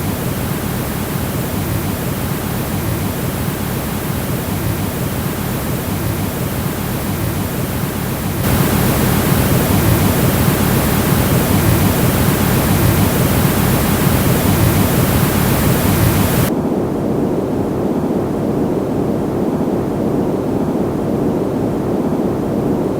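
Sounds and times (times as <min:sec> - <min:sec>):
filtered rushing noise: 0:00.0 - 0:21.0.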